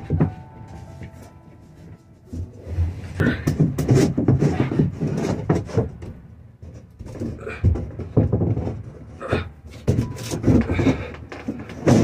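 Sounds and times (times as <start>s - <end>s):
wooden panel knocking and scraping: 2.3s - 12.0s.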